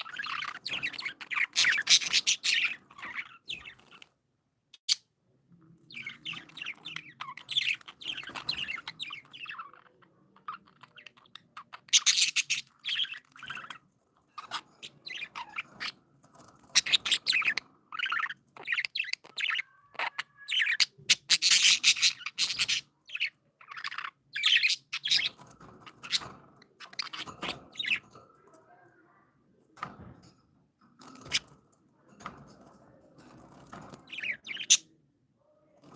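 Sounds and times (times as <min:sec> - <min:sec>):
budgerigars chirping and chattering: 0:00.0 - 0:04.2, 0:04.8 - 0:05.0, 0:05.7 - 0:30.3, 0:30.9 - 0:35.0.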